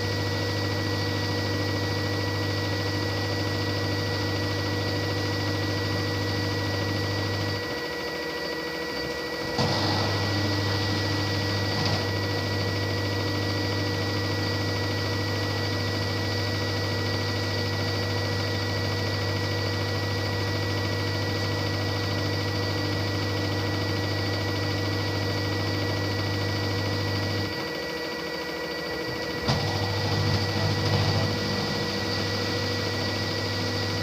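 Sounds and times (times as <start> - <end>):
washing machine spinning hum: 0.0 - 34.0.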